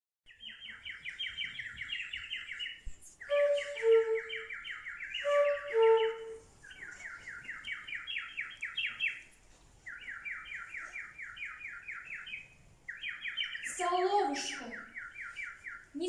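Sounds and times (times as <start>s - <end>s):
low whistled bird notes: 0.3s - 9.3s, 9.9s - 13.8s, 14.4s - 16.0s
nightingale trilling: 0.3s - 16.0s.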